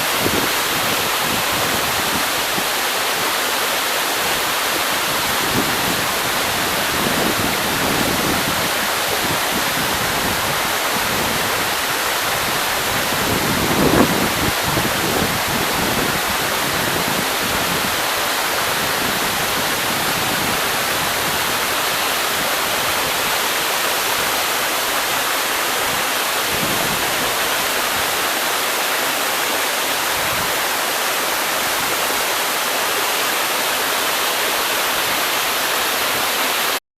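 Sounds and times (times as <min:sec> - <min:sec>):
waterfall roaring: 0:00.0 - 0:36.8.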